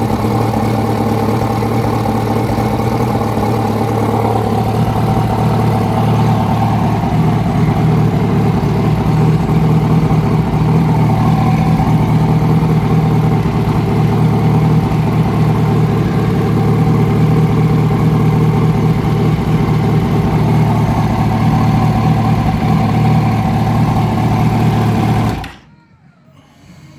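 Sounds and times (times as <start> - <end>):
motorcycle engine idling: 0.0 - 25.6.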